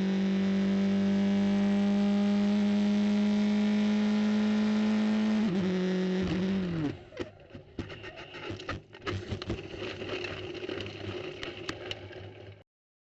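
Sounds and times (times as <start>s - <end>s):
vehicle steady tone: 0.0s - 12.6s.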